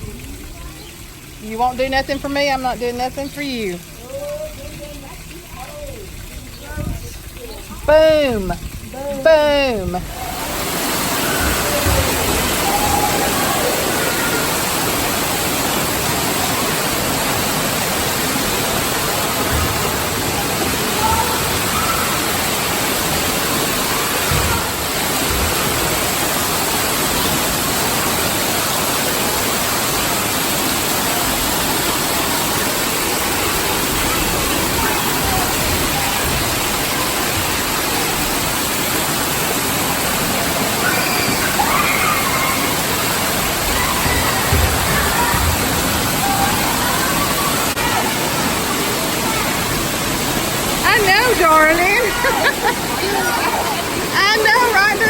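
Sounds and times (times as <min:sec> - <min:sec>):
faint children's voices: 0:00.0 - 0:02.4, 0:03.2 - 0:26.3, 0:30.9 - 0:55.0
rushing splashing water: 0:00.0 - 0:55.0.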